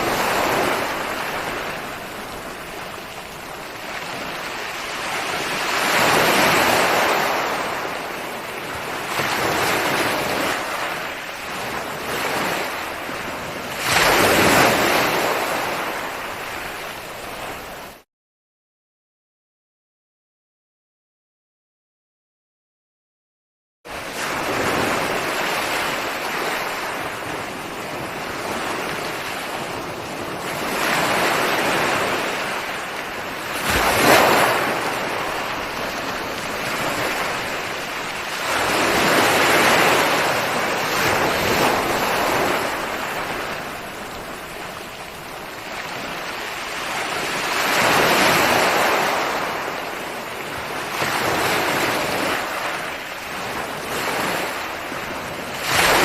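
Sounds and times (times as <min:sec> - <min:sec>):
ocean waves breaking on shore: 0:00.0 - 0:18.0, 0:23.9 - 0:56.0.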